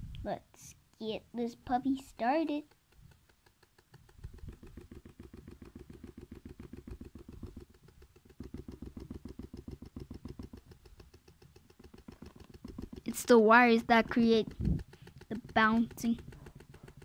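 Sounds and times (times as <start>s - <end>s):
small motor spinning: 1.5s - 17.0s
drum rattling: 2.0s - 17.0s.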